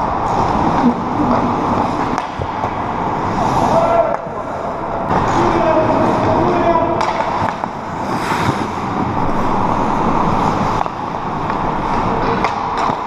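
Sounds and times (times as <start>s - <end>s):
hockey sticks and puck clacking: 0.0s - 13.0s
skates scraping ice: 0.1s - 13.0s.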